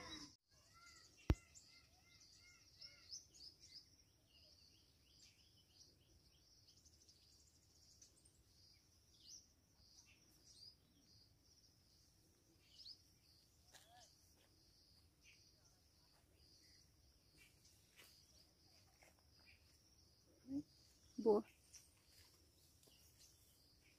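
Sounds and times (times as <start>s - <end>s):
birds chirping: 0.0s - 23.9s.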